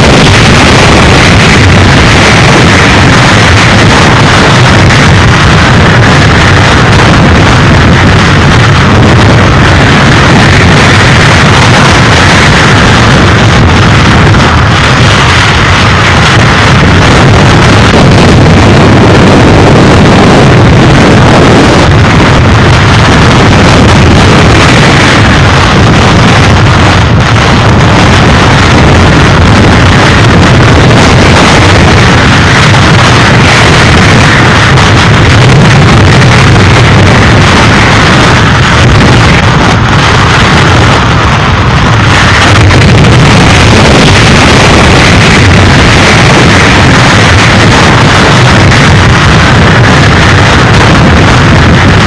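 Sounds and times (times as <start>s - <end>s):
driving rain: 0.0s - 52.0s
hurricane-force wind: 0.0s - 52.0s.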